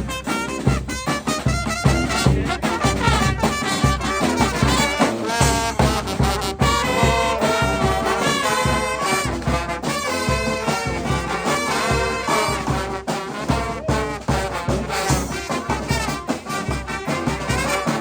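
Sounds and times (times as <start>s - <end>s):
steady drum beat: 0.0s - 18.0s
trumpets and trombones: 0.0s - 18.0s.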